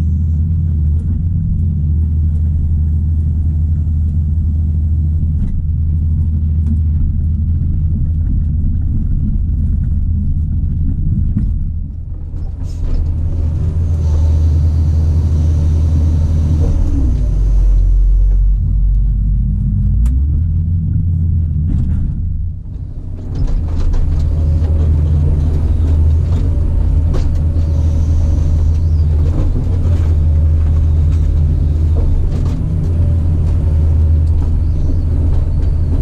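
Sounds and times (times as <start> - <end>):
diesel engine rumbling: 0.0 - 36.0
engine knocks: 0.0 - 36.0.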